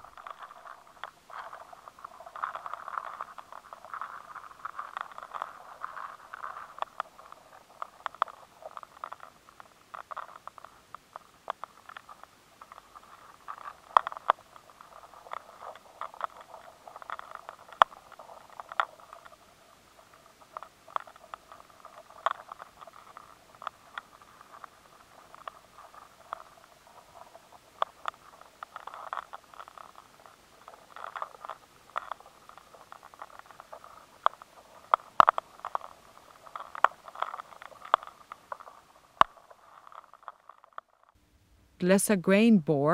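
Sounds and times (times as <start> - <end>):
larvae gnawing crackling scrape: 0.0 - 41.2.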